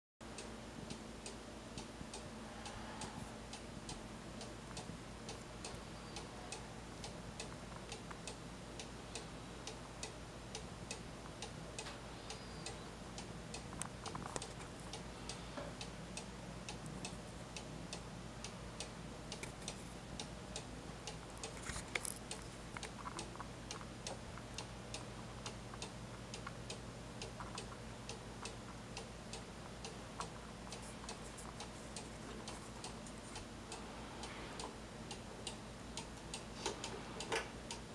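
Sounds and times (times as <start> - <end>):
clock ticking faintly: 0.2 - 37.9.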